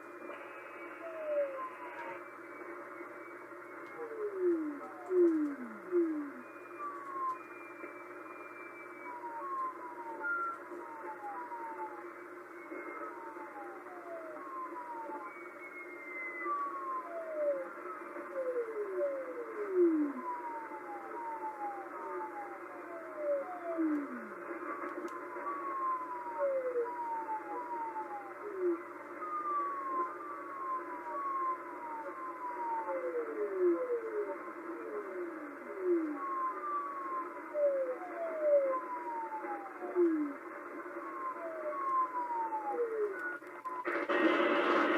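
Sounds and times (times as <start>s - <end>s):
static hiss: 0.0s - 44.9s.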